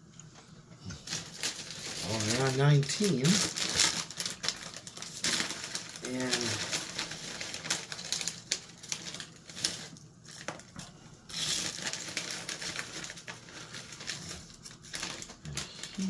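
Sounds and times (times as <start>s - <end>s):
crunching and crinkling: 0.0s - 16.0s.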